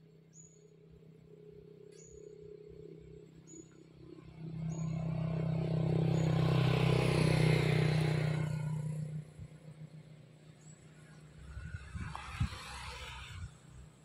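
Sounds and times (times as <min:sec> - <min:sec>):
passing engine hum: 0:00.0 - 0:14.0.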